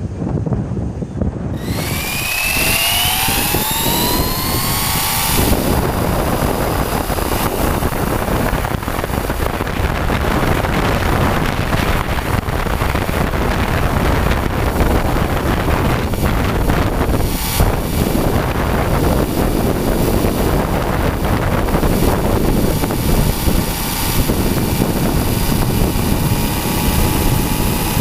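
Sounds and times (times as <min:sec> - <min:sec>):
wind and tyre noise: 0:00.0 - 0:28.0
electric motor whining: 0:01.6 - 0:28.0.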